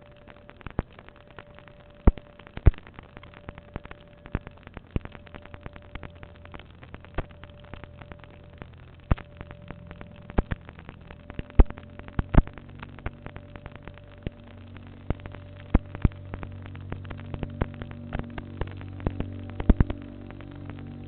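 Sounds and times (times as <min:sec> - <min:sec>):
faint steady hum: 0:00.0 - 0:21.0
sharp pops and clicks: 0:00.0 - 0:21.0.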